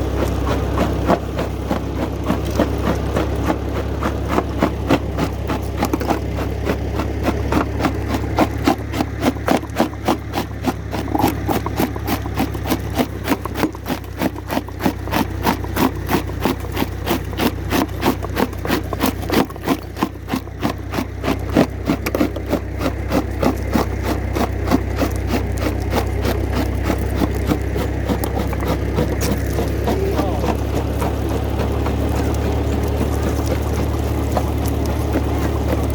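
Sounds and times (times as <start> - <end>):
rock crusher knocking and clattering: 0.0 - 35.9
tractor engine running: 0.0 - 35.9.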